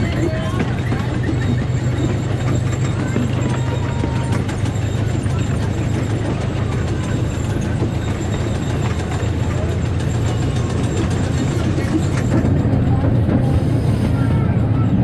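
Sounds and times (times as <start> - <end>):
train cars rattling on rails: 0.0 - 15.0.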